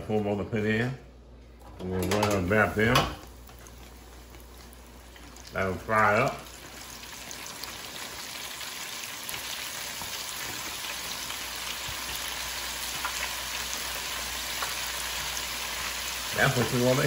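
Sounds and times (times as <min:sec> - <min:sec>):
shrimp sizzling in hot oil: 0:03.3 - 0:17.0.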